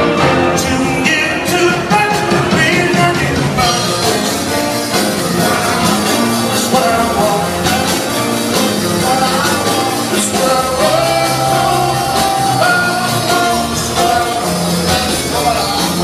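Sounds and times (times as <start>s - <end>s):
rhythm and blues band playing: 0.0s - 16.0s.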